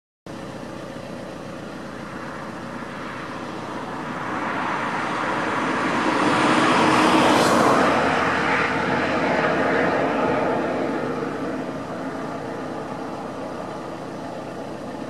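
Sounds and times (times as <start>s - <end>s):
passing vehicle engine: 0.4s - 15.0s.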